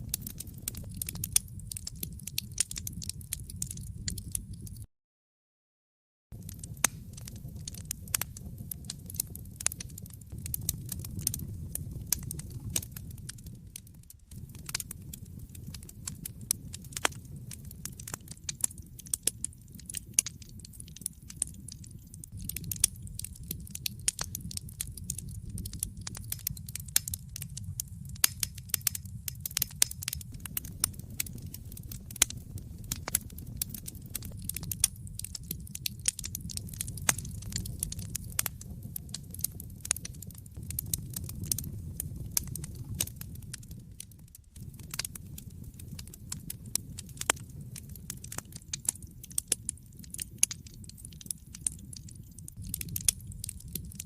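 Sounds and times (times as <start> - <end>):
wood fire crackling: 0.0 - 4.9, 6.3 - 54.0.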